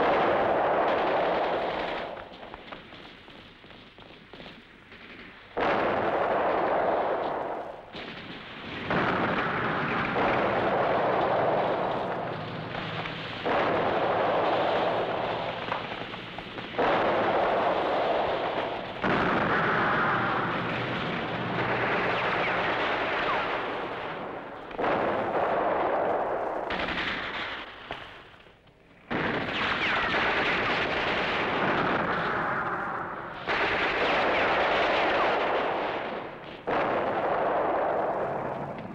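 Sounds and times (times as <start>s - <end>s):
gunfire: 0.0s - 28.4s, 29.1s - 38.9s
explosions: 5.0s - 28.2s, 29.1s - 38.9s.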